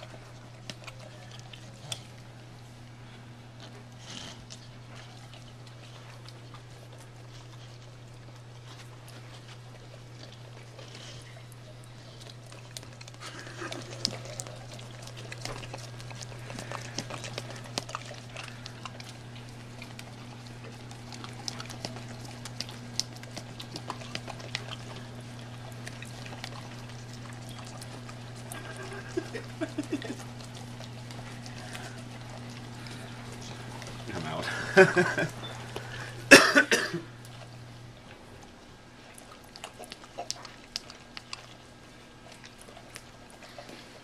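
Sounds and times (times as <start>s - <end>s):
dogs licking and smacking lips: 0.0s - 44.0s
steady low hum: 0.0s - 44.0s.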